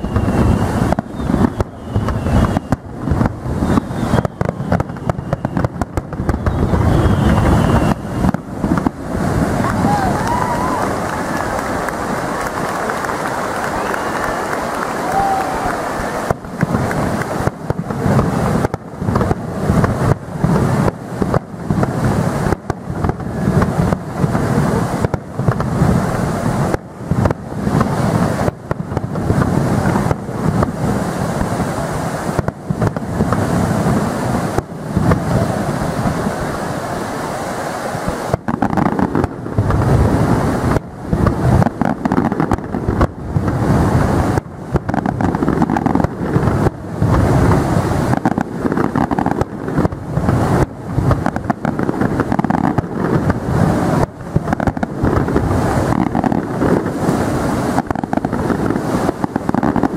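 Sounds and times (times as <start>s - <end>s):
fireworks booming: 0.0s - 59.9s.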